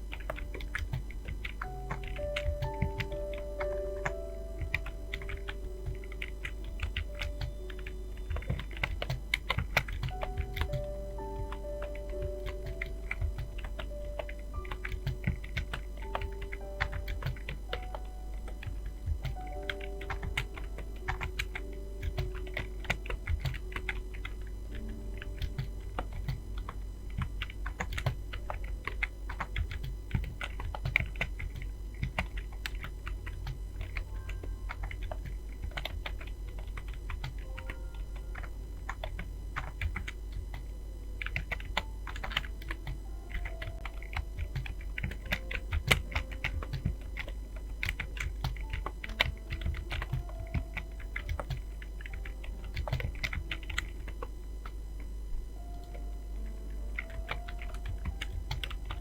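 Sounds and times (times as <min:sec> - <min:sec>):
faint music: 0:00.0 - 0:59.0
fast keyboard typing: 0:00.0 - 0:59.0.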